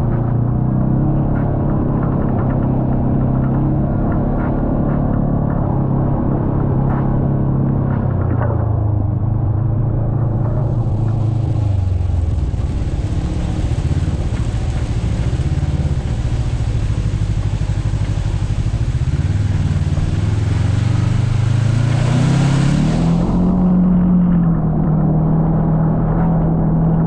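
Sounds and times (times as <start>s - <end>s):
utility vehicle engine accelerating: 0.0s - 27.0s.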